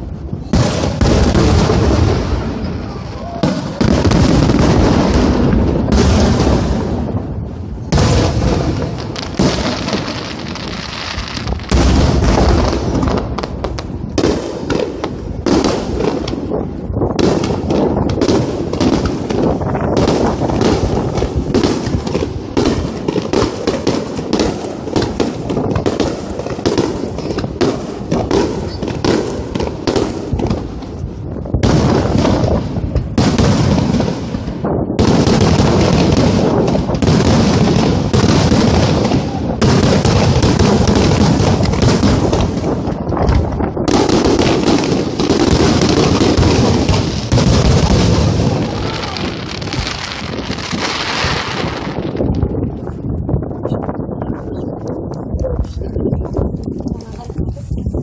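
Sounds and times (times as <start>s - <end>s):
fireworks booming and crackling: 0.0s - 58.0s.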